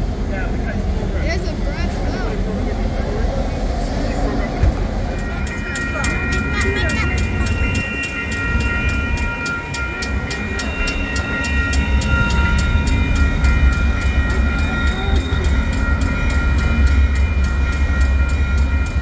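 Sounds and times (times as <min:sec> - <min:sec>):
passenger train rumbling past: 0:00.0 - 0:19.0
steady high tones: 0:01.6 - 0:19.0.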